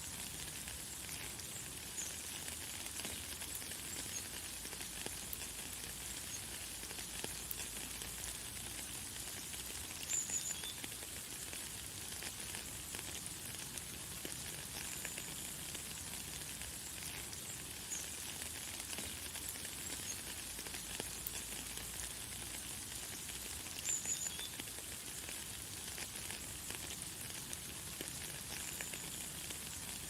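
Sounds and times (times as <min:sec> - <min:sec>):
light rain hiss: 0:00.0 - 0:30.0.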